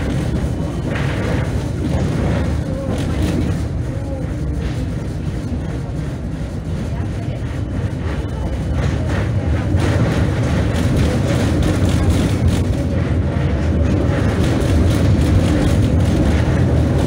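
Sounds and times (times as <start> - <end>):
light clatter: 0.0 - 17.0
tram wheels rumbling on rails: 0.0 - 17.0.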